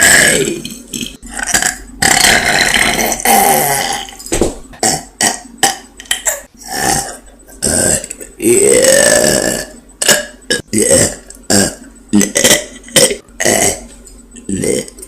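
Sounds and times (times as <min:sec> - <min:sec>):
person burping: 0:00.0 - 0:15.0.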